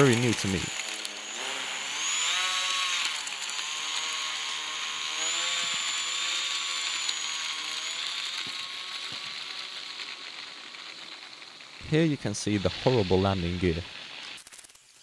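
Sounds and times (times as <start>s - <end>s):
electric motor and propeller whining: 0.0s - 15.0s.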